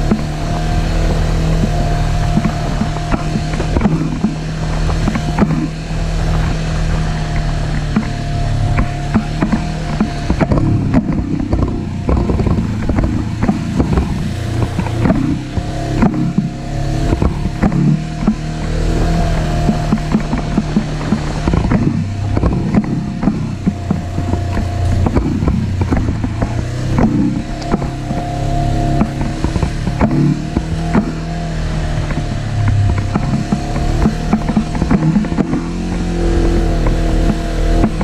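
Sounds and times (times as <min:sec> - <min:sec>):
off-road vehicle engine: 0:00.0 - 0:38.0
vehicle knocks and rattles: 0:00.0 - 0:38.0.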